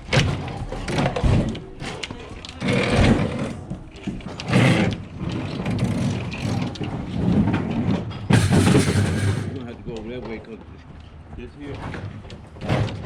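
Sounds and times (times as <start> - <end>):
refrigerator scraping and knocking: 0.0 - 10.6, 11.4 - 13.0.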